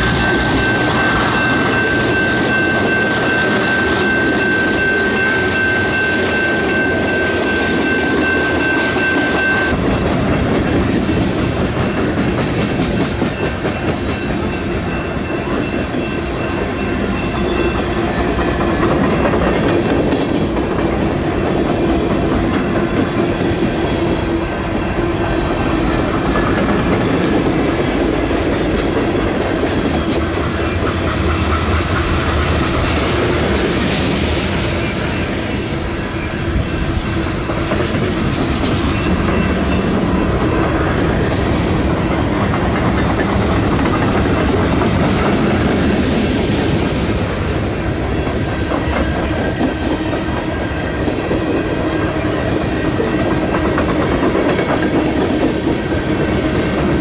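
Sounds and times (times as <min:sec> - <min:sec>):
train wheels clacking on rail joints: 0:00.0 - 0:24.4, 0:25.3 - 0:35.2, 0:36.6 - 0:57.0.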